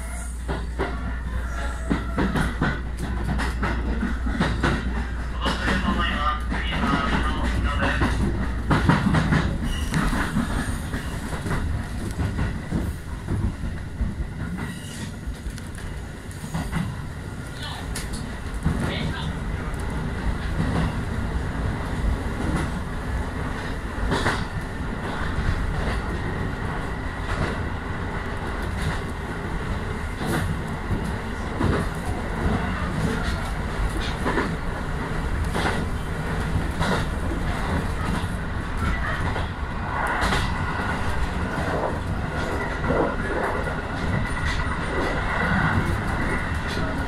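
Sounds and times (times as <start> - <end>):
train rumble: 0.0 - 47.0.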